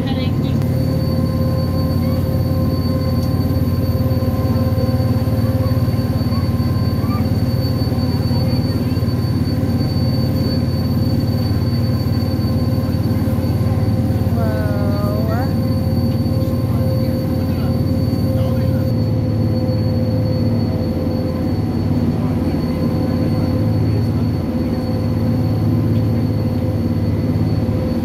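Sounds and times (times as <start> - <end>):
steady whining tones: 0.0 - 28.0
train cabin low rumble: 0.0 - 28.0.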